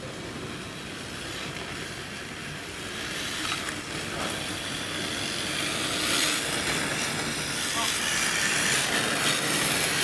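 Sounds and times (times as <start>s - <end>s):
drift tyres hissing on asphalt: 0.0s - 10.0s
toy car drivetrain whir: 0.0s - 10.0s.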